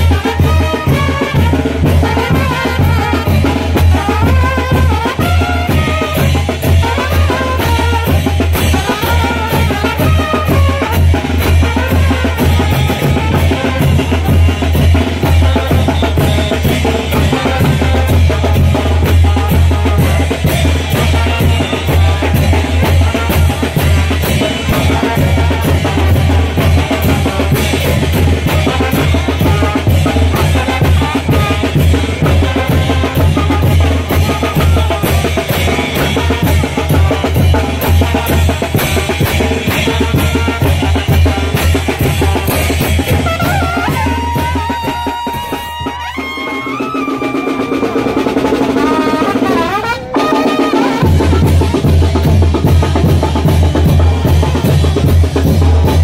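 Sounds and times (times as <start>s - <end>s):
bass drum and snare beat: 0.0s - 56.0s
brass band playing: 0.0s - 56.0s.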